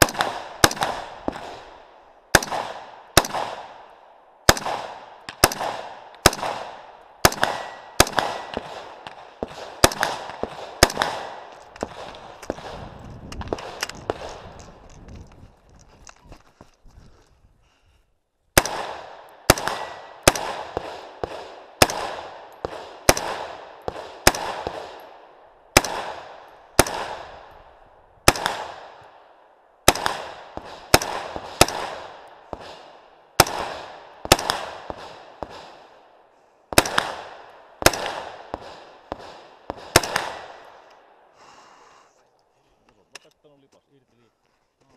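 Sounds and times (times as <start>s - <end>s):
rifle shots with echo: 0.0s - 14.6s, 18.6s - 41.4s.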